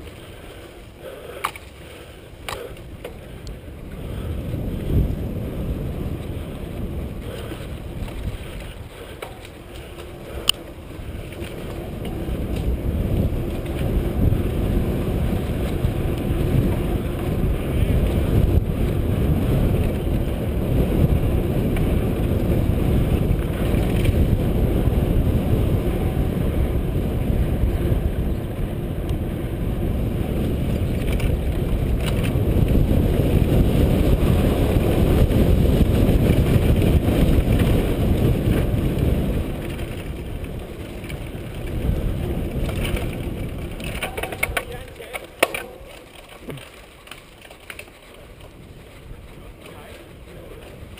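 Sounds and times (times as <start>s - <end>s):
mountain bike rumble and rattle: 0.0s - 50.9s
wind buffeting microphone: 0.0s - 50.9s.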